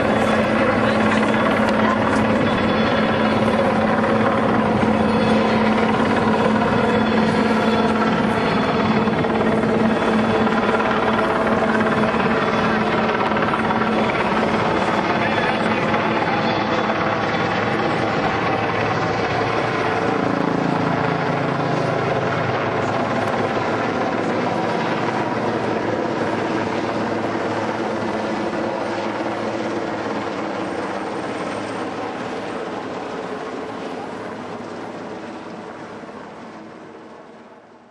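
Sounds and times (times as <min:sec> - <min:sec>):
helicopter flying past: 0:00.0 - 0:37.9.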